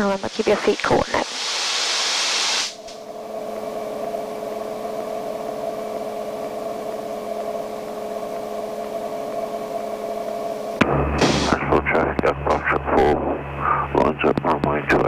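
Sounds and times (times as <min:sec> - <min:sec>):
aircraft engine and propeller idling: 0:02.8 - 0:15.0.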